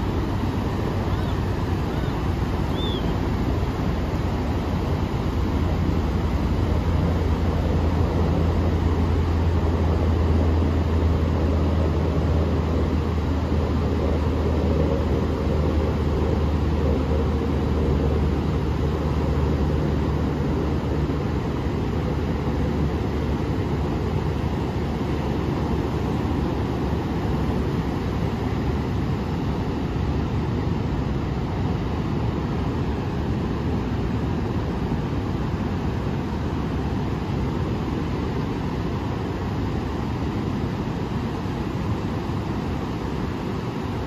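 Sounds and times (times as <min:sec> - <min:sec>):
surf breaking on beach: 0:00.0 - 0:44.0.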